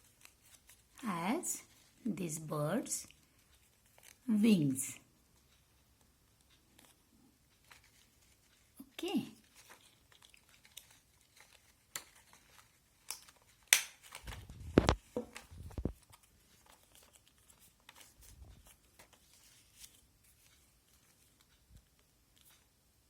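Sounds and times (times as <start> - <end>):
paper crinkling: 0.0 - 2.1, 2.8 - 4.3, 6.4 - 22.6.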